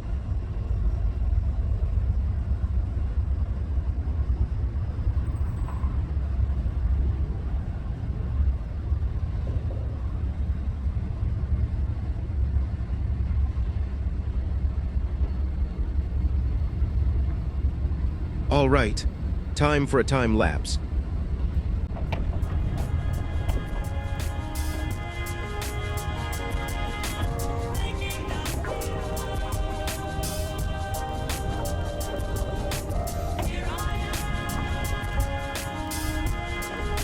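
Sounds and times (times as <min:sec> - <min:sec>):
freight train rumbling on rails: 0:00.0 - 0:37.0.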